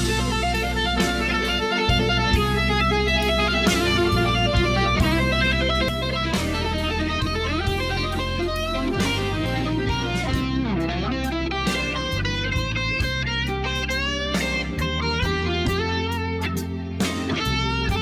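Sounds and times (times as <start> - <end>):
electric guitar music: 0.0 - 18.0.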